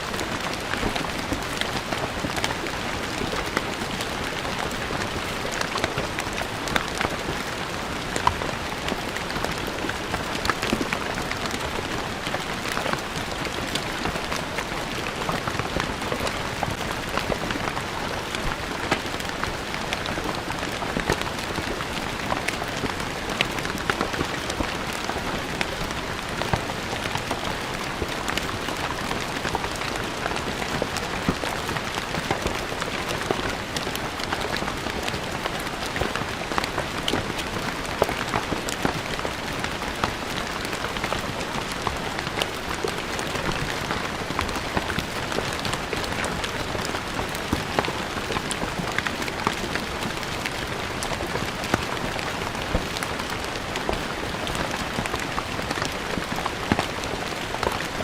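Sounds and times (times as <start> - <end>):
rain on stone paving: 0.0 - 58.0.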